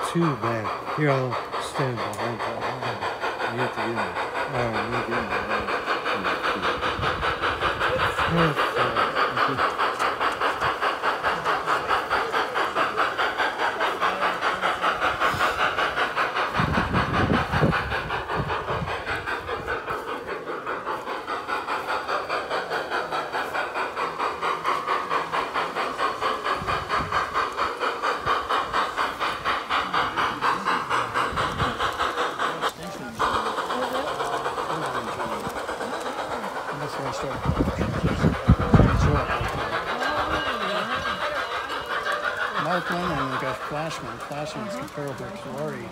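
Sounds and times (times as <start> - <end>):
model steam locomotive chuffing: 0.0 - 45.9
steam hiss: 0.0 - 45.9.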